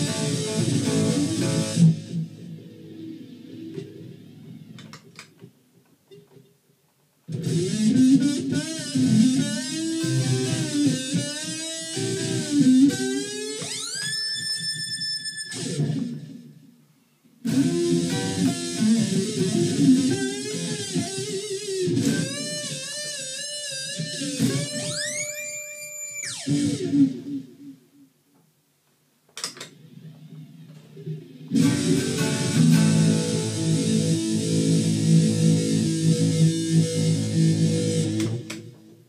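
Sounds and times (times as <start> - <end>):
electric guitar riffs: 0.0 - 4.9, 7.3 - 16.7, 17.4 - 28.0, 29.7 - 39.0.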